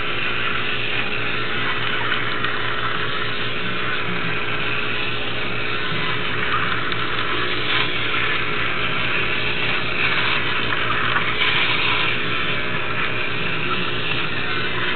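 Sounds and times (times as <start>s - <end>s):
toy robot motor whirring: 0.0s - 14.9s.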